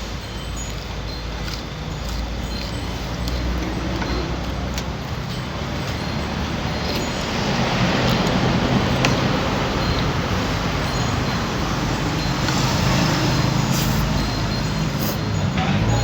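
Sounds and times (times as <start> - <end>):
road noise hiss: 0.0 - 16.0
vehicle engine humming: 0.0 - 16.0.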